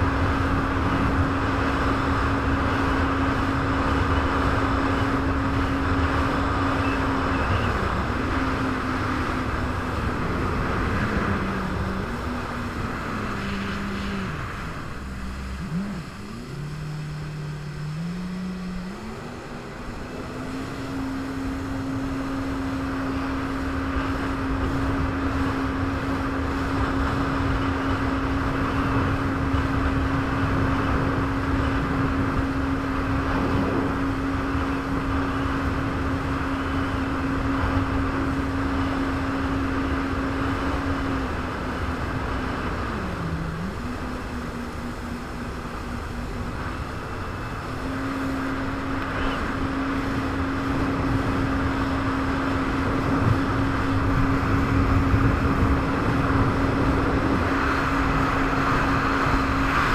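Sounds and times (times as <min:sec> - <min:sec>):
jet ski engine: 0:00.0 - 0:59.9
rushing wind and water: 0:00.0 - 0:59.9.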